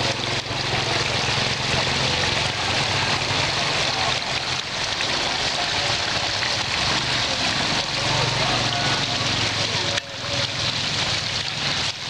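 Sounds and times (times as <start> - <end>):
water splashing in fountain: 0.0 - 12.0.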